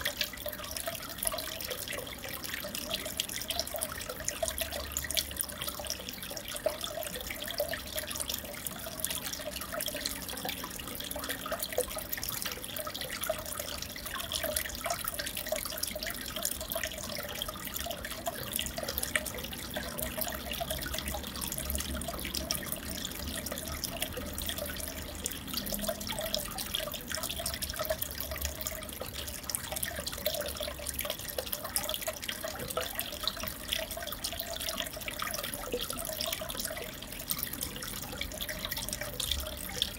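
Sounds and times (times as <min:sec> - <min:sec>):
trickling bubbling water: 0:00.0 - 0:39.9.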